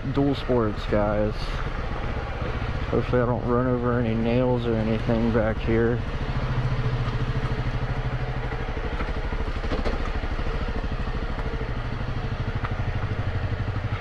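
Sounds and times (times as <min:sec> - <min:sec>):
motorcycle engine running steadily: 0:00.0 - 0:14.0.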